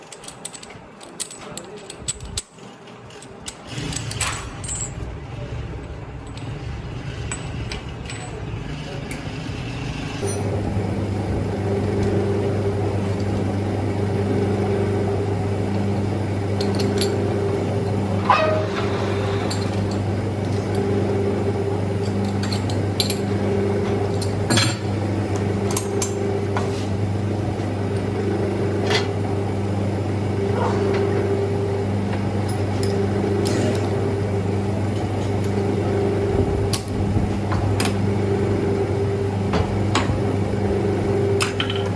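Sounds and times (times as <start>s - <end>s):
metal lathe humming: 3.7s - 41.9s.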